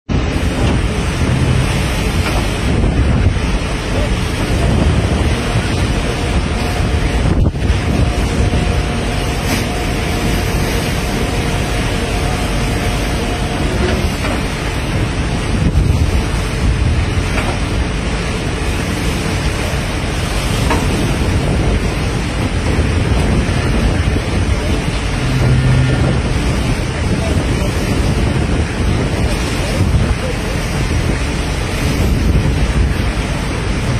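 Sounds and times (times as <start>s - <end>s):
water rushing from bow wave: 0.0s - 33.9s
strong wind buffeting microphone: 0.1s - 33.9s.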